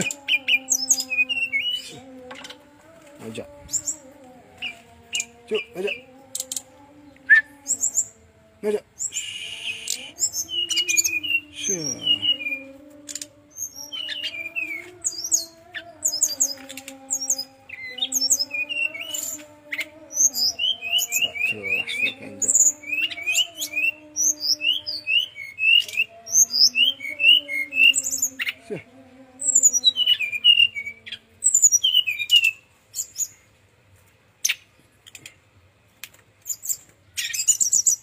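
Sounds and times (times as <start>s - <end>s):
bird singing chirps and trills: 0.0s - 33.5s, 36.4s - 38.0s.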